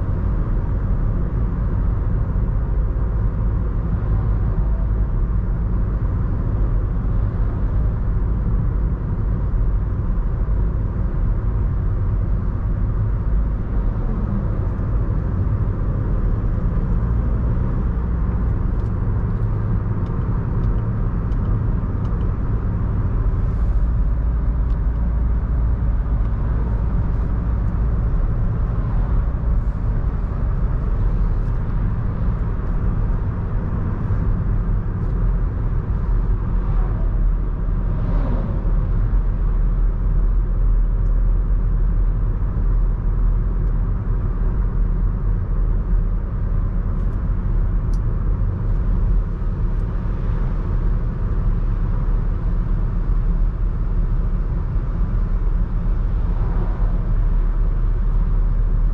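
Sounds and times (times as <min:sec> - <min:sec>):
car cabin road rumble: 0:00.0 - 0:58.9.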